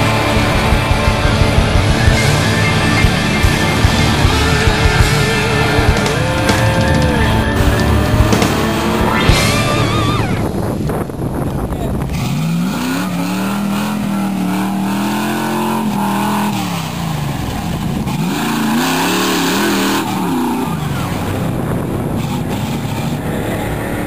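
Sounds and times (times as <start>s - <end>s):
engine revving: 0.0s - 24.0s.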